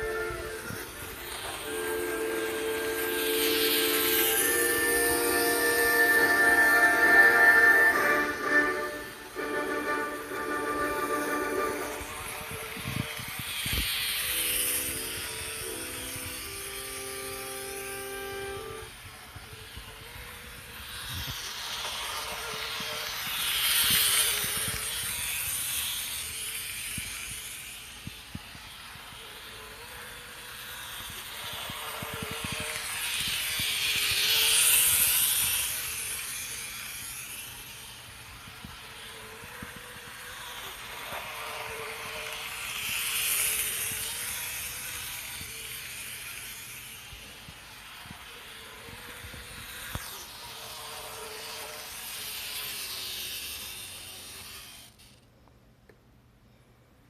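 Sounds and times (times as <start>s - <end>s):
model train motor whirring: 0.0s - 55.5s
wheels clicking on rails: 0.0s - 56.1s.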